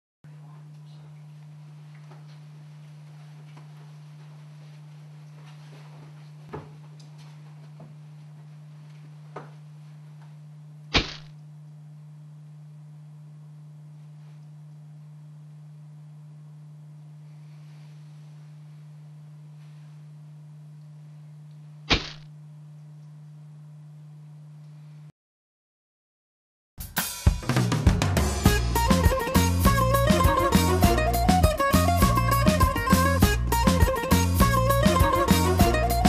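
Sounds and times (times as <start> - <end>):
steady low hum: 0.3 - 25.1, 28.2 - 36.0.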